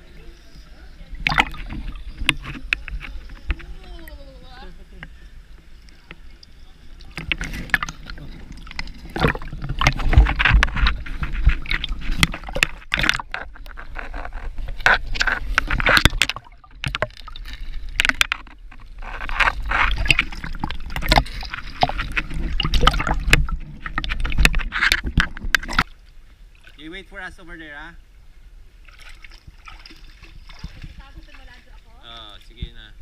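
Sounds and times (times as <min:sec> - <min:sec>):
water splashing from swimming: 0:00.0 - 0:27.0, 0:28.8 - 0:32.3.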